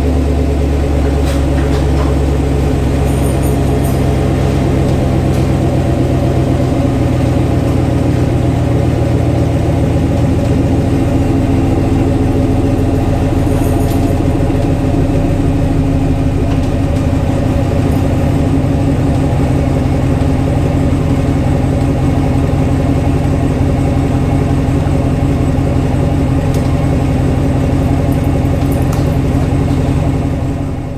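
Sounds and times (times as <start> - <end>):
engine running steadily: 0.0 - 30.9.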